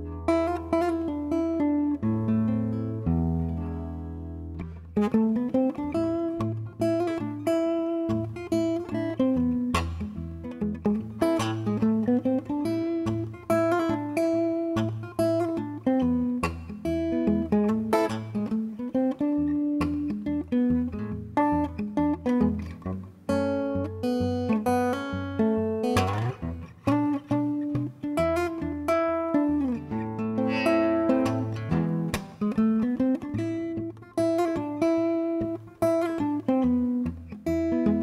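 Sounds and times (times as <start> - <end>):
solo acoustic guitar: 0.0 - 38.0.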